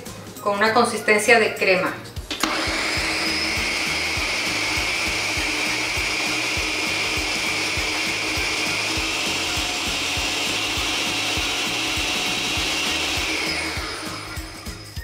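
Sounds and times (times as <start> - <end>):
blender whirring: 2.3 - 15.0.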